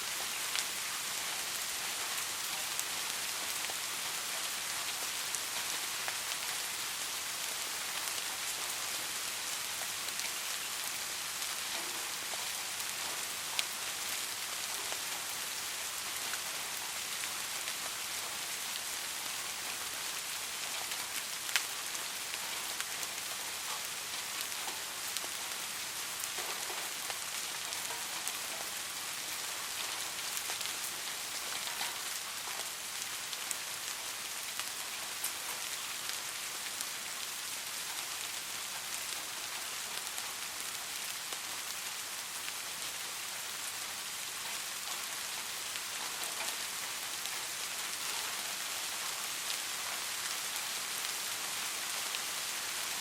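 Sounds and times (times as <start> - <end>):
soft rain falling: 0.0 - 53.0.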